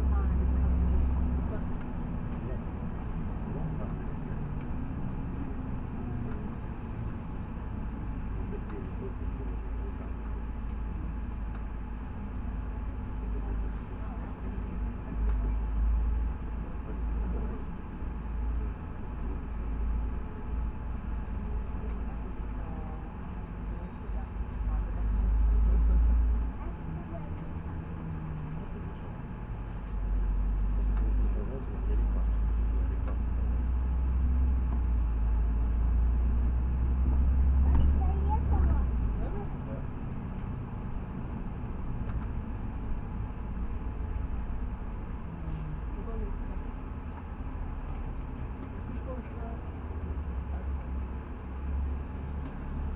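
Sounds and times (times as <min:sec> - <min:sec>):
bus engine and road rumble: 0:00.0 - 0:52.9.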